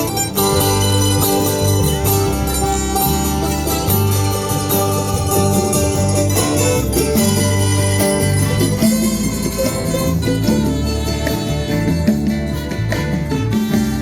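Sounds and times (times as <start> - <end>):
plucked strings over bass line: 0.0 - 14.0.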